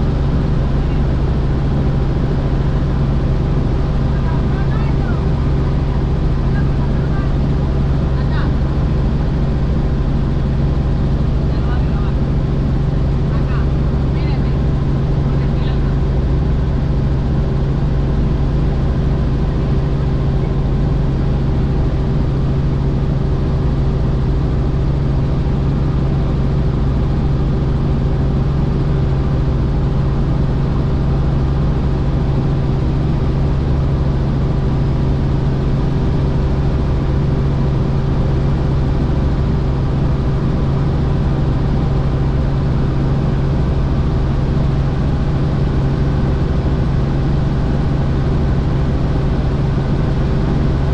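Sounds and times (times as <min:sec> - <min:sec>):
helicopter engine and rotor hum: 0:00.0 - 0:50.9.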